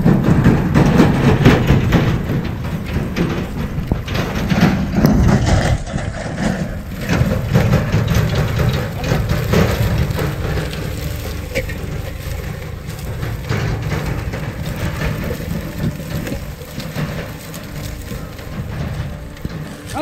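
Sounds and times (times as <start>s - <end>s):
harrow crunching through stubble: 0.0s - 20.0s
low engine rumble: 0.0s - 20.0s
steel discs rattling: 0.0s - 20.0s.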